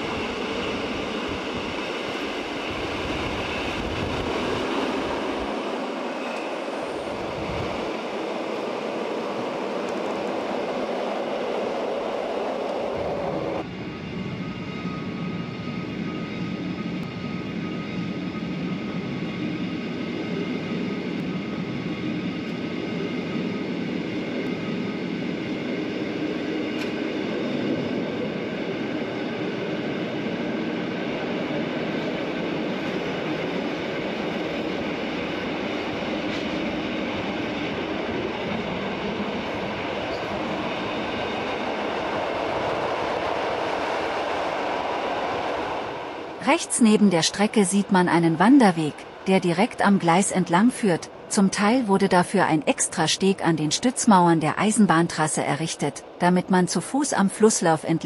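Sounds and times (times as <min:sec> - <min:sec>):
train wheels rumbling on rails: 0:00.0 - 0:50.4.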